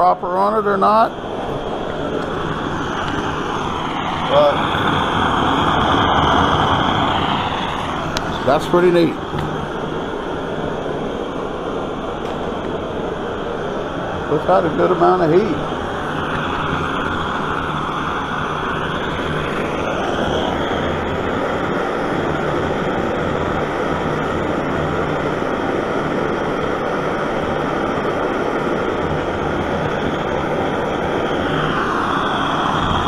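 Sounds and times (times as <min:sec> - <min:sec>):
blowtorch flame roaring: 0:00.0 - 0:33.0.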